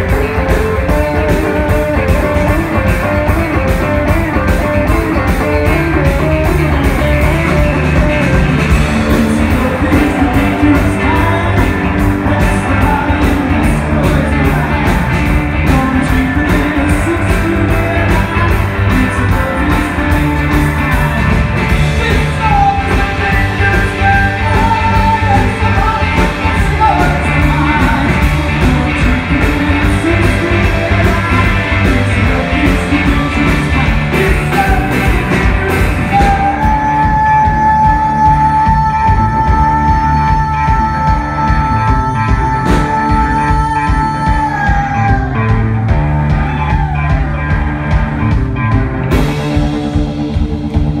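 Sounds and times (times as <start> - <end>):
man singing: 0.0 - 47.6
drum kit beat: 0.0 - 51.0
electric bass: 0.0 - 51.0
electric guitars: 0.0 - 51.0.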